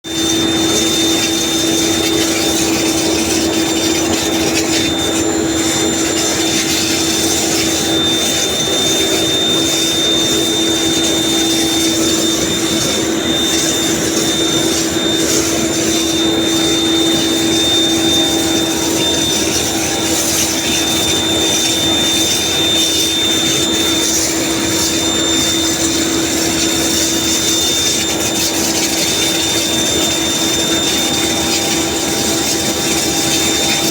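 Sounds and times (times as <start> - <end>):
high machinery whine: 0.0 - 33.9
machinery hum: 0.1 - 33.9.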